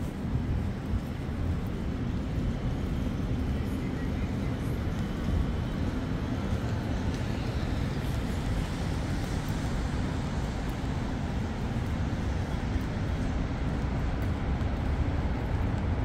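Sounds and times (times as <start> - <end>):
faint voices of passers-by: 0.0 - 16.0
traffic rumble: 0.0 - 16.0.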